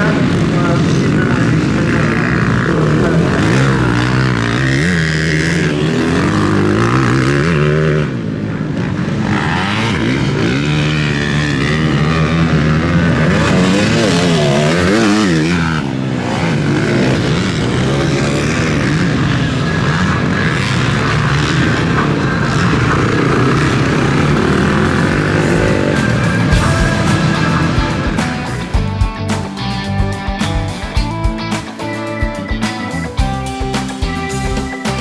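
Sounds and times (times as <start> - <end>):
motocross bikes revving: 0.0 - 35.0.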